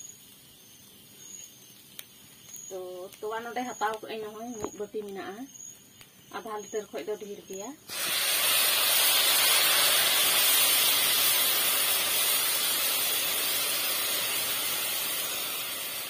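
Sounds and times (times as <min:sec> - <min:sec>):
milk hissing in hot pan: 0:00.0 - 0:16.0.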